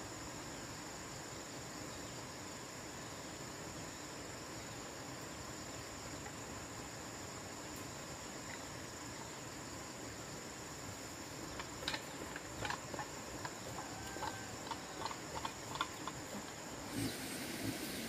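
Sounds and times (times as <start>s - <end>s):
high insect whine: 0.0s - 18.0s.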